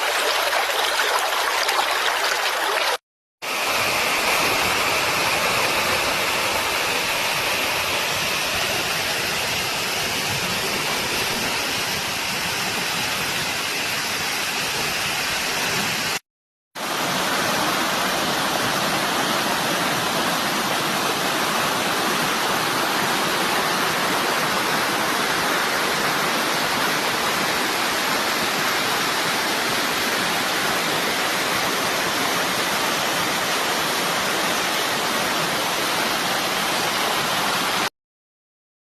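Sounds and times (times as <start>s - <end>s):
river water rushing over stones: 0.0s - 14.2s, 16.8s - 37.9s.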